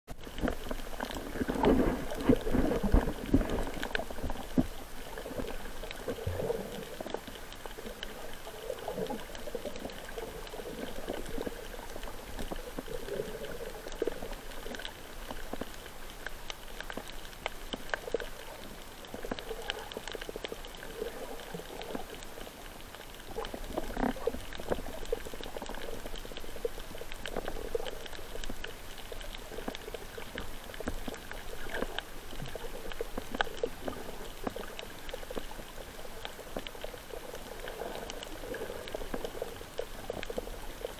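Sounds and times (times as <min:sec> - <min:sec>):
faint clicks: 0:00.1 - 0:40.9
underwater sloshing and bubbling: 0:00.1 - 0:40.9.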